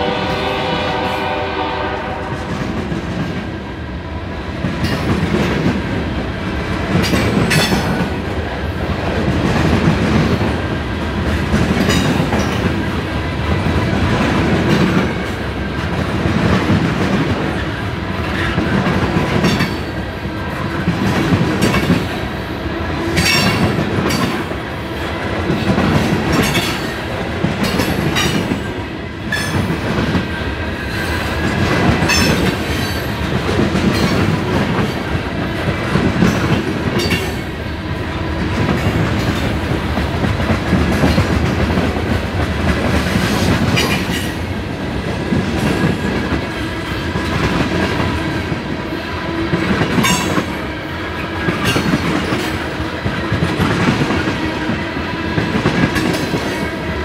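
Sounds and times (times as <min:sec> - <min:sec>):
train wheels clacking on rails: 0:04.5 - 0:57.0.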